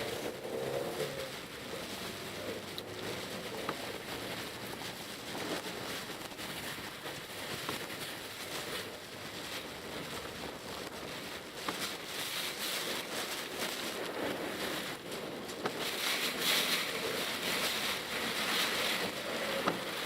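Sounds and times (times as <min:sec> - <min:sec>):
rain and wet tyre noise: 0:00.0 - 0:20.0
raindrops ticking on a car: 0:00.0 - 0:20.0.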